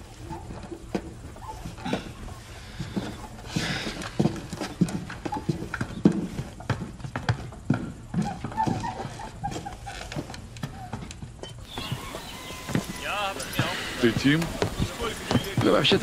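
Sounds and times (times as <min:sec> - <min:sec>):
clopping steps on hard ground: 0:00.4 - 0:16.0.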